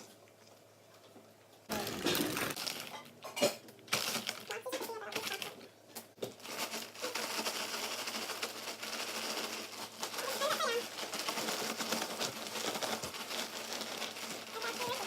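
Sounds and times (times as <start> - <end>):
snack mix rattling in plastic bag: 1.7 - 3.2, 3.8 - 5.6, 6.2 - 15.0.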